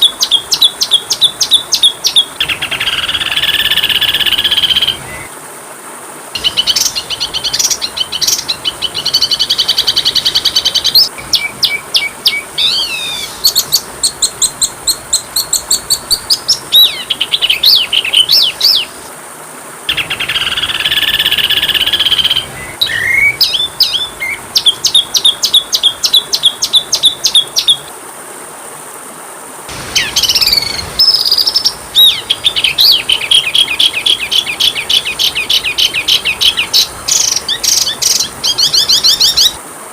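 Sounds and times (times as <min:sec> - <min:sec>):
songbird chirps and trills: 0:00.0 - 0:05.3, 0:06.4 - 0:19.2, 0:19.9 - 0:27.9, 0:29.7 - 0:39.6.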